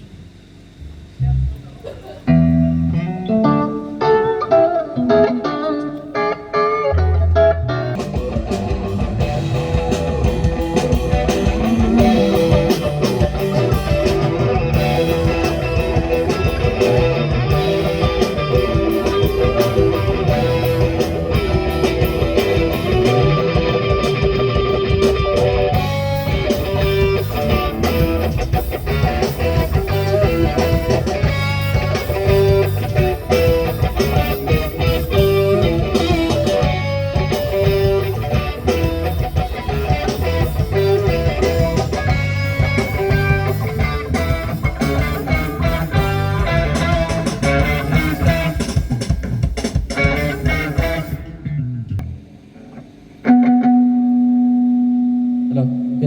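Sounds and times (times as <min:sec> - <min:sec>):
drums: 0:00.0 - 0:53.9
bass guitar: 0:00.0 - 0:56.0
electric guitar: 0:00.9 - 0:56.0.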